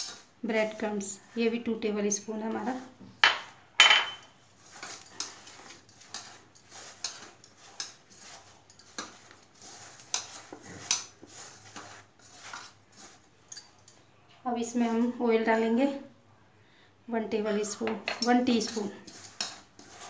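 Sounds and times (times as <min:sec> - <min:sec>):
hands mixing in metal bowl: 0:00.0 - 0:13.9, 0:17.8 - 0:20.0.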